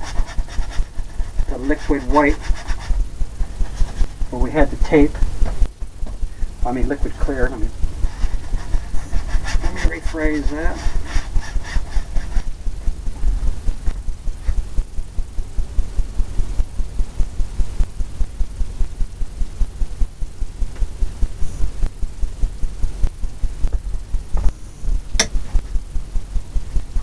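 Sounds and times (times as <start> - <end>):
deep pulsing rumble: 0.8 - 27.0.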